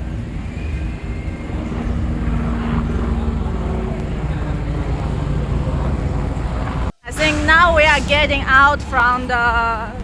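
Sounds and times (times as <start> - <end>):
vehicle engines running: 0.0 - 10.0.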